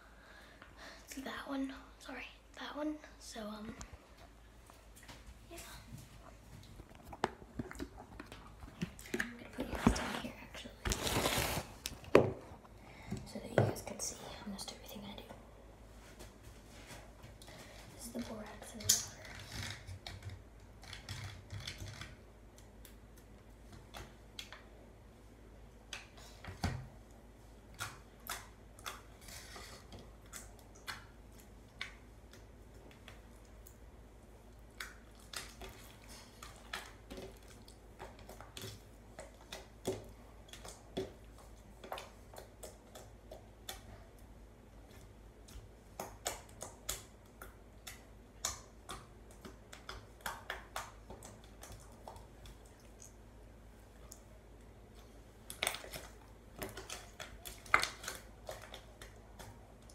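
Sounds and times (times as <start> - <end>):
soft clicks of slime mixing: 3.4 - 11.0, 16.1 - 59.9.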